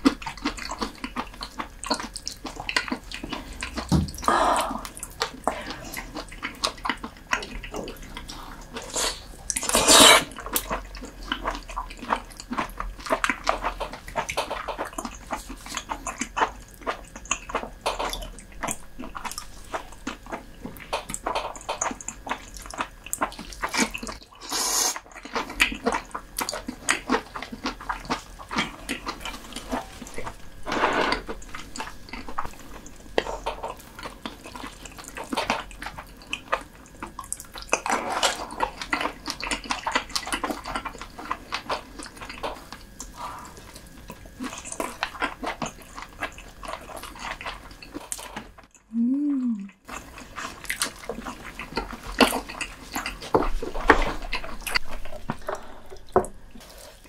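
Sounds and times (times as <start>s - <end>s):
wet chewing and mouth smacks: 0.0s - 48.9s, 49.5s - 56.9s.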